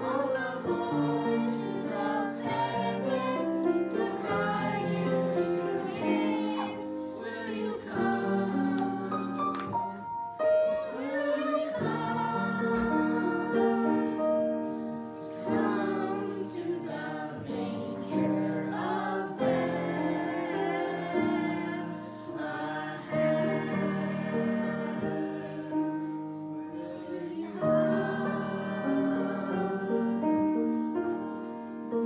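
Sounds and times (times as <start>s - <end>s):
choir singing in harmony: 0.0s - 32.0s.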